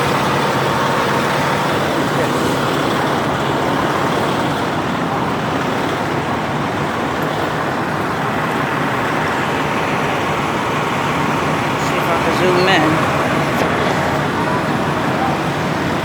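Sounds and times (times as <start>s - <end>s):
flooded creek rushing: 0.0s - 16.0s.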